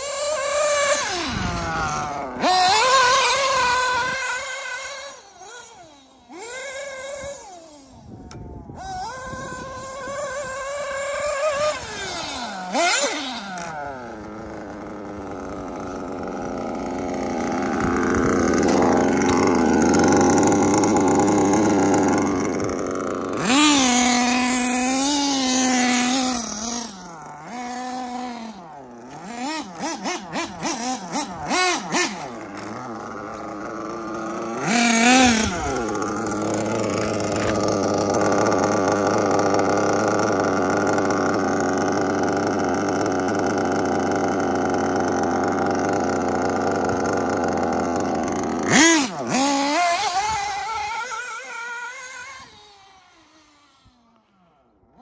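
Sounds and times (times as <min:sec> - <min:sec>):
nitro engine revving: 0:00.0 - 0:55.0.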